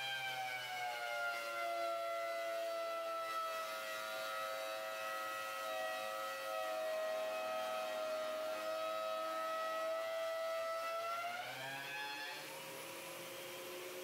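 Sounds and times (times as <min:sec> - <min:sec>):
thickness planer whining: 0:00.0 - 0:14.0.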